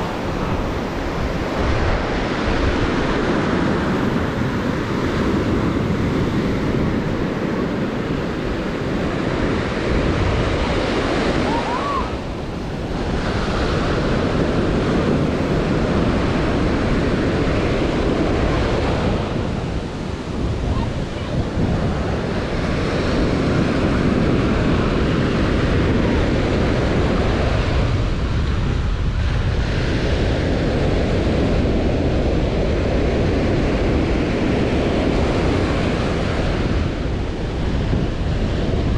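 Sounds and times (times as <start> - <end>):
ocean surf breaking on beach: 0.0 - 38.9
wind on microphone: 0.0 - 38.9.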